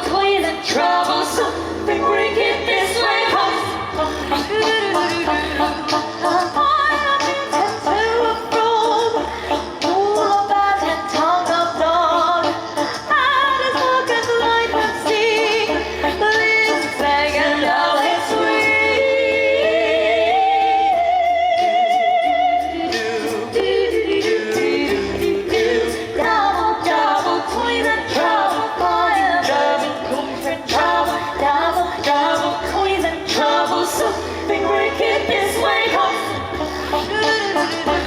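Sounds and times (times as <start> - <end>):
choir singing a cappella: 0.0 - 38.0.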